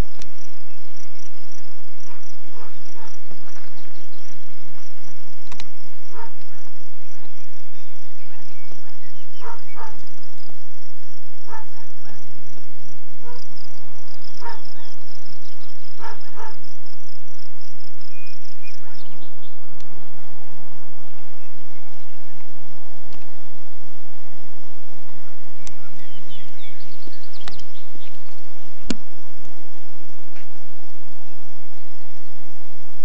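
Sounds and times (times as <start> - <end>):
insects chirping: 0.0 - 32.1.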